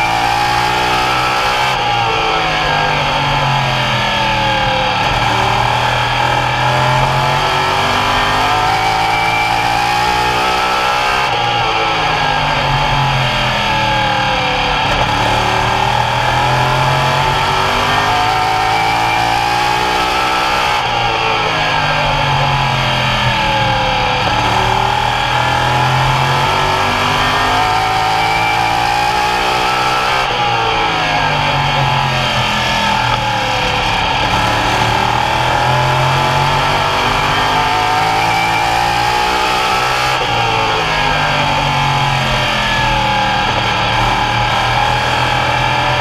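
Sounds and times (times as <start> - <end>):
race car engines passing: 0.0 - 46.0.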